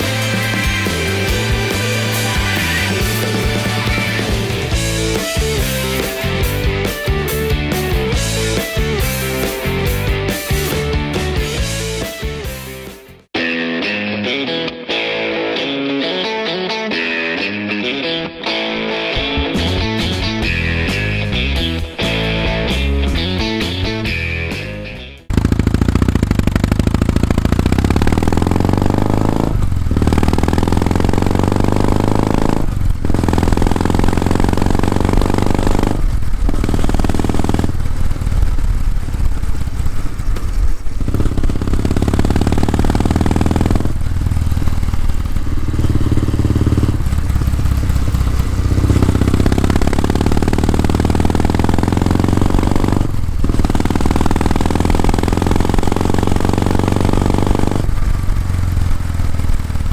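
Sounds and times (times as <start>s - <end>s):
motorcycle exhaust accelerating: 0.0s - 13.3s, 19.2s - 59.9s.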